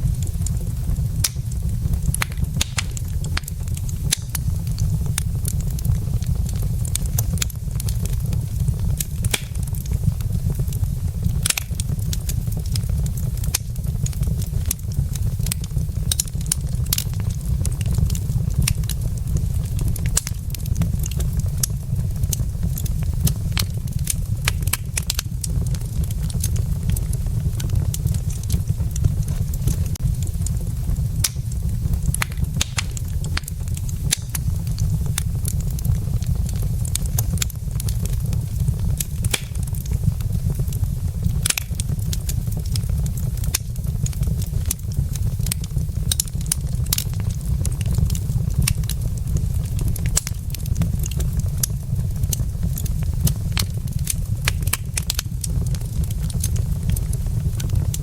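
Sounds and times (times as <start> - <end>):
logs crackling and popping in fire: 0.0 - 58.0
low fire rumble: 0.0 - 58.0.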